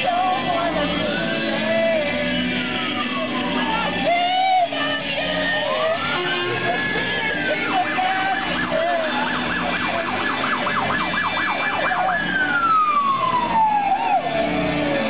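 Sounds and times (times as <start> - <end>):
emergency siren wailing and yelping: 0.0 - 15.0.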